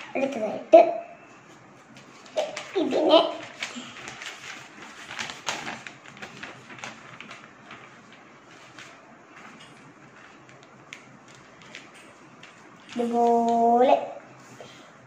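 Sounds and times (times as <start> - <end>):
newspaper rustling and crinkling: 1.6 - 14.6.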